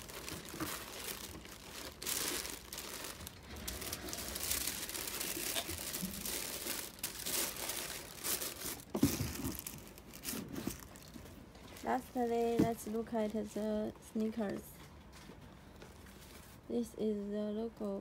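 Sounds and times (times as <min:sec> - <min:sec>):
plastic bag and tissue crinkling: 0:00.0 - 0:16.8.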